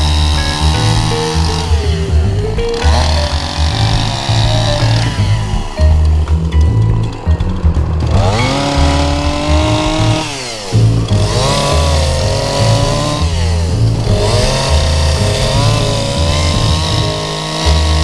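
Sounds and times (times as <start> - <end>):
chainsaw cutting log: 0.0 - 6.6, 8.0 - 18.0
background music: 0.0 - 18.0.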